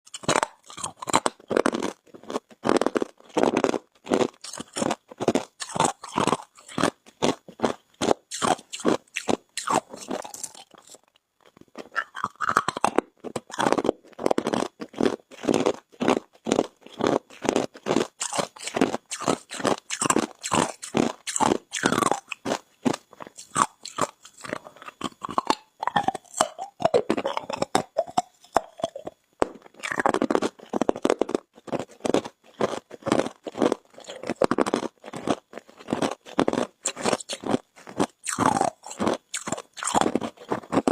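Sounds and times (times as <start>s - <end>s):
ice being chewed: 0.1s - 40.9s.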